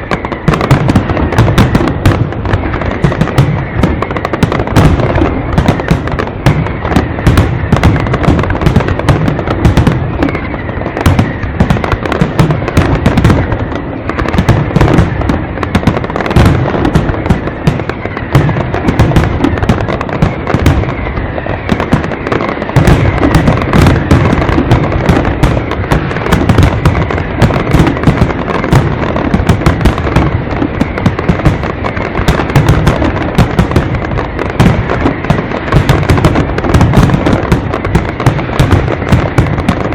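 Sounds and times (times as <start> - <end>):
fireworks bangs and crackling: 0.0 - 39.9
low firework booms: 0.0 - 39.9.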